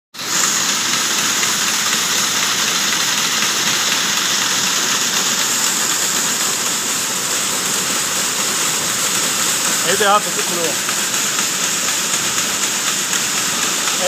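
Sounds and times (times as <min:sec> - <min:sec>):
knitting machines whirring: 0:00.2 - 0:14.0.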